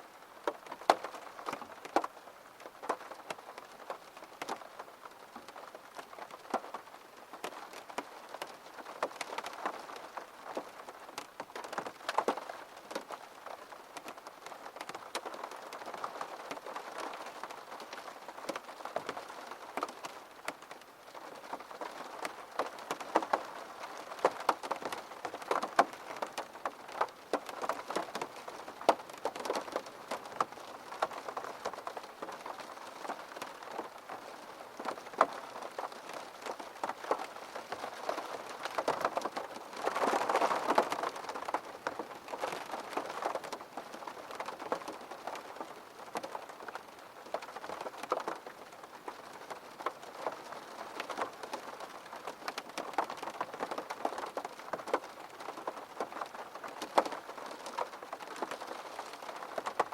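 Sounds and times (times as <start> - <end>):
raindrops ticking on a surface: 0.0 - 59.9
steady rain falling: 0.0 - 59.9.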